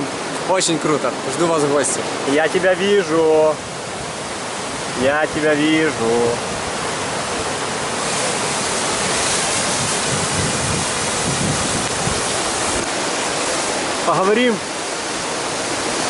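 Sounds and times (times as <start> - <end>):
river rushing over rapids: 0.0 - 16.0.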